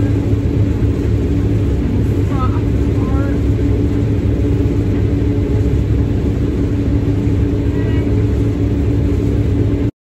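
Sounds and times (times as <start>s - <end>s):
combine harvester drone: 0.0s - 9.9s.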